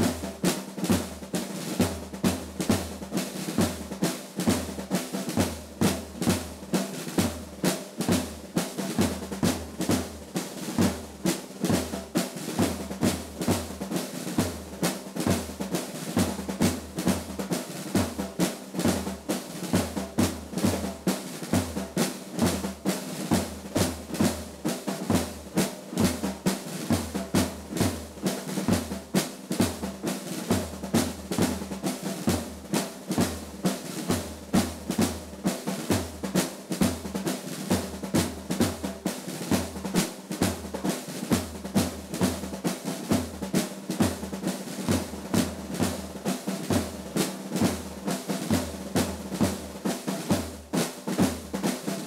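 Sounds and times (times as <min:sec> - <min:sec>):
snare drum rolls: 0:00.0 - 0:52.0.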